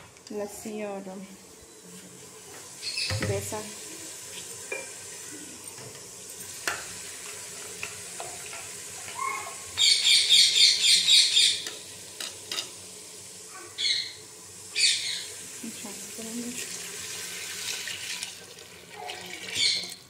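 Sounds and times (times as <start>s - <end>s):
masala sizzling in a pot: 0.3s - 20.0s.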